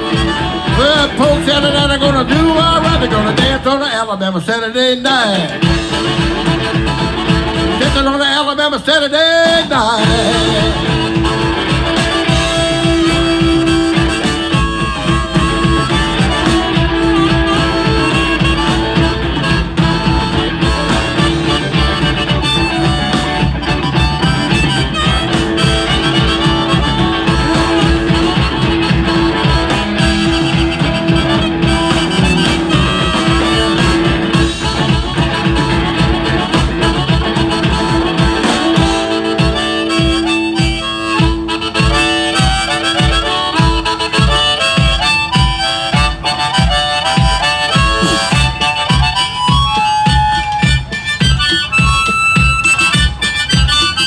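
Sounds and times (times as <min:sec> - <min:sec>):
bass: 0:00.0 - 0:03.7, 0:05.6 - 0:08.0, 0:10.0 - 0:54.0
harmonica solo: 0:00.0 - 0:03.8, 0:05.6 - 0:54.0
steady drum beat: 0:00.0 - 0:03.9, 0:05.3 - 0:08.3, 0:09.4 - 0:54.0
guitar: 0:00.0 - 0:54.0.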